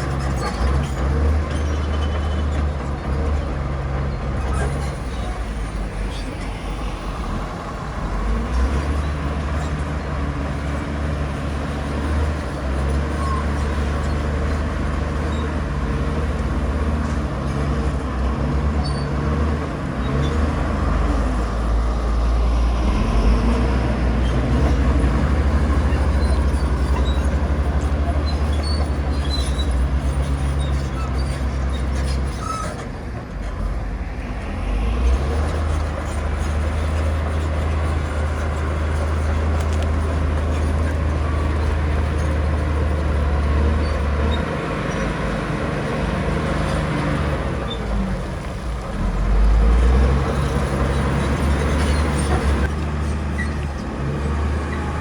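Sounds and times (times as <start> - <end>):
heavy diesel engine rumble: 0.0 - 55.0.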